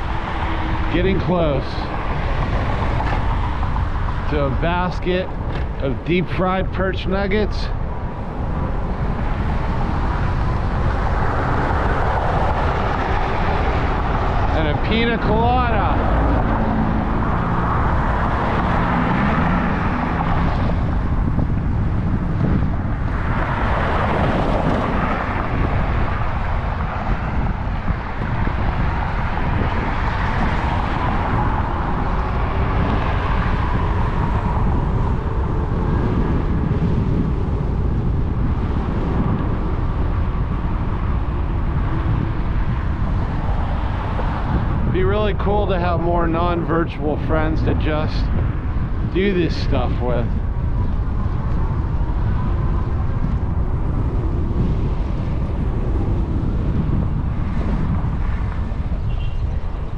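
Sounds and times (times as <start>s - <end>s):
road traffic: 0.0s - 59.9s
wind and tyre rumble: 0.0s - 59.9s.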